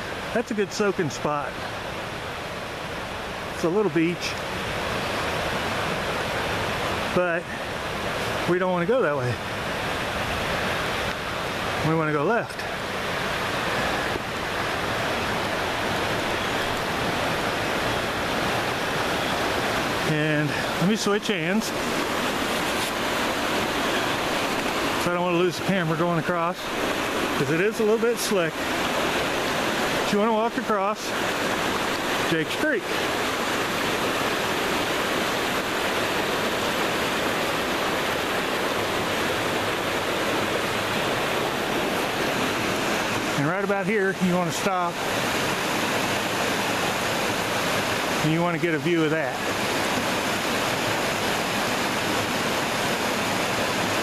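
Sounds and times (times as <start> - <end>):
mountain creek rushing: 0.0 - 54.0.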